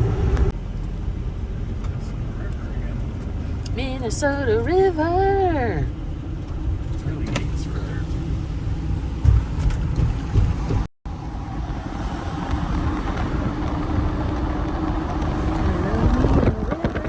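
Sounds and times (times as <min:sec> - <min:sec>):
van road and engine rumble: 0:00.0 - 0:17.0.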